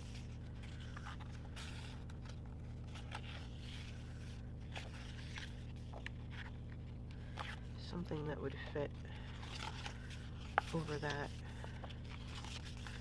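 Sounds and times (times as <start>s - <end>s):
paper sticker sheets rustling: 0.0s - 13.0s
steady low hum: 0.0s - 13.0s.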